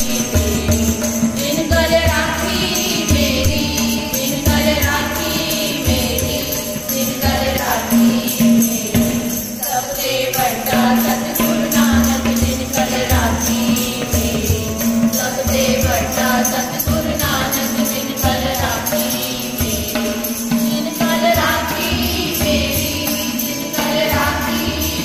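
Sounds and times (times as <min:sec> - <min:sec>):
harmonium chords: 0:00.0 - 0:25.0
tabla beating: 0:00.0 - 0:25.0
women singing a hymn: 0:00.0 - 0:25.0.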